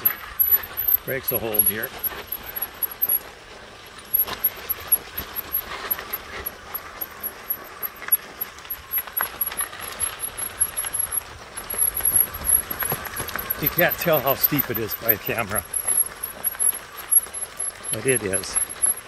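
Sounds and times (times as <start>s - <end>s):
pebbles clicking under wheels: 0.0s - 19.0s
tires crunching on dirt trail: 0.0s - 19.0s.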